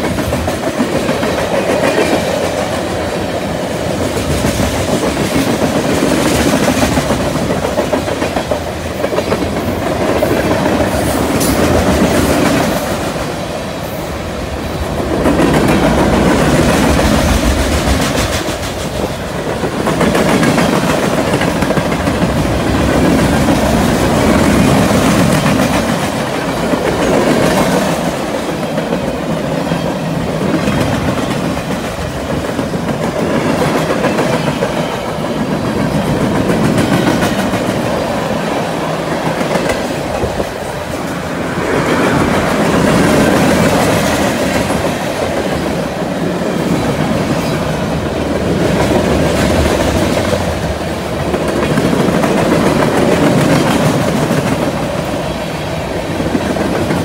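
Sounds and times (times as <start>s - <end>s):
clickety-clack over rail joints: 0.0s - 13.6s, 14.7s - 57.0s
train wheels rumbling on rails: 0.0s - 57.0s.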